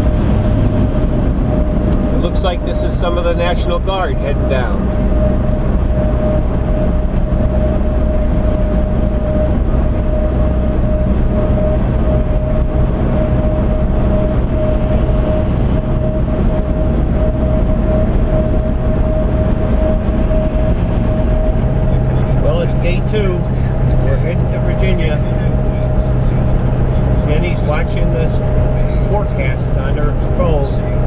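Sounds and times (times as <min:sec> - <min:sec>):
road and engine rumble: 0:00.0 - 0:31.0
thin steady whine: 0:00.0 - 0:31.0.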